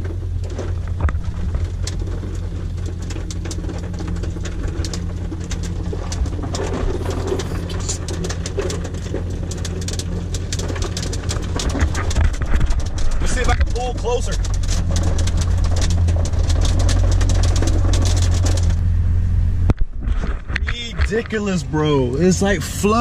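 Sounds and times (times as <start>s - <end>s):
rain and hail ticking on car: 0.0s - 18.8s
low rumble: 0.0s - 23.0s.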